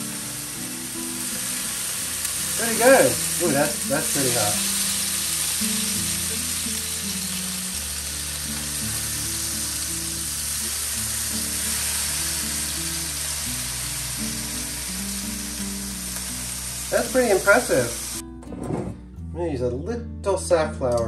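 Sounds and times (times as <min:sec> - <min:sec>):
water drops sizzling on hot plate: 0:00.0 - 0:18.2
low background music: 0:00.0 - 0:21.0.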